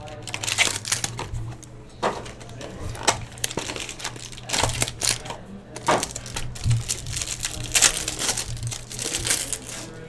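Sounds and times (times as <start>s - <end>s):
cards and packaging rustling: 0.0s - 10.0s.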